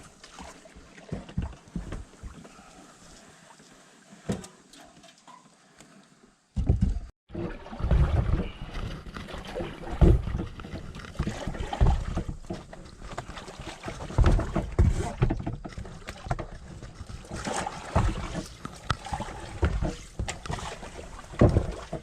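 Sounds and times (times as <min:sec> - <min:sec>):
water splashing around boat: 0:00.0 - 0:06.2, 0:07.3 - 0:22.0.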